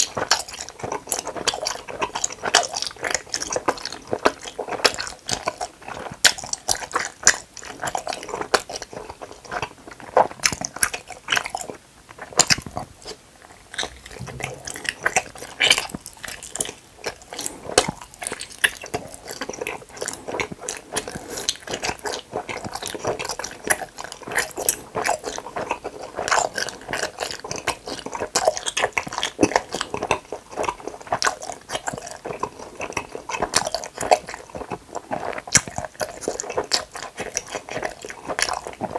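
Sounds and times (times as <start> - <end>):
chewing gummy candy: 0.0 - 38.9.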